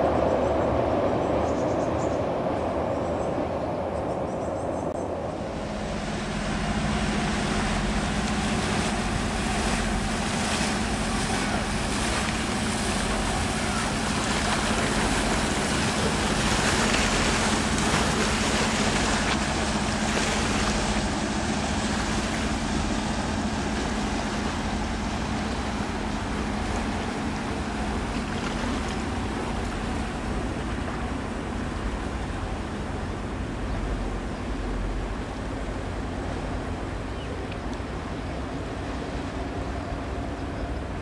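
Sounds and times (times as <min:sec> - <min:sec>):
wind on microphone: 0:00.0 - 0:37.1
boat engine drone: 0:00.0 - 0:41.0.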